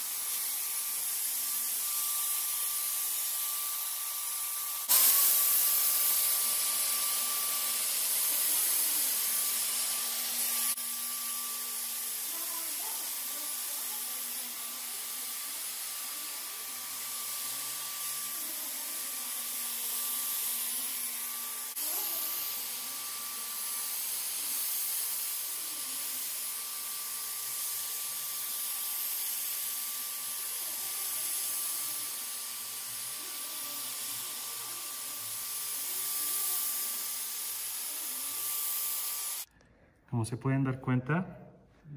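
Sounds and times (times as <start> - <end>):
hiss of fine mist: 0.0 - 39.5
sprayer motor whine: 0.0 - 39.5.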